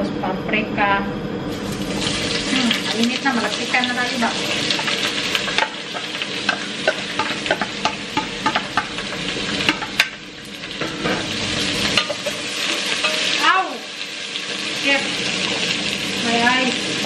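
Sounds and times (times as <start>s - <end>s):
vegetables sizzling in oil: 1.5s - 17.0s.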